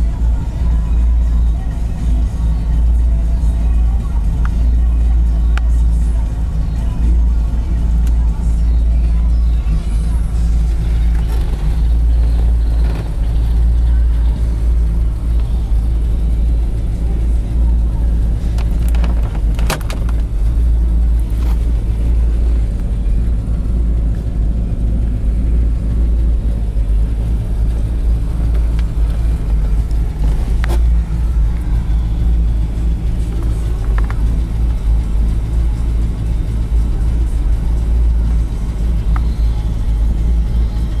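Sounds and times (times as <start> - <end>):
engine running with deep drone: 0.0 - 41.0.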